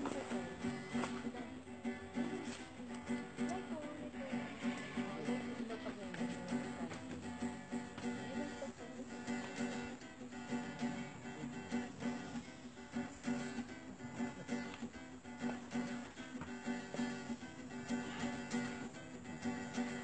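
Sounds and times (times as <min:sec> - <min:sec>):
strummed guitar music with beat: 0:00.0 - 0:20.0.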